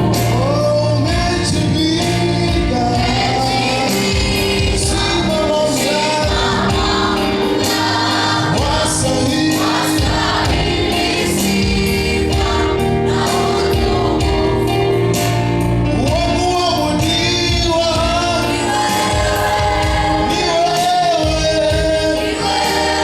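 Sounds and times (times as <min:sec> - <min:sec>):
choir singing gospel: 0:00.0 - 0:23.0
instrumental backing with beat: 0:00.0 - 0:23.0.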